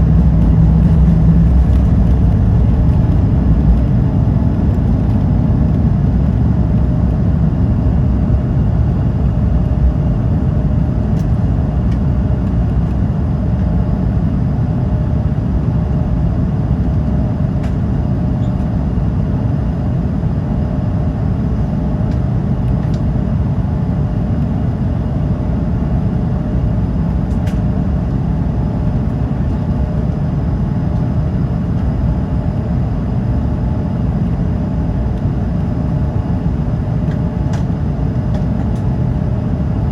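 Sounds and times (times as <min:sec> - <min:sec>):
jet engines in cabin: 0:00.0 - 0:39.9.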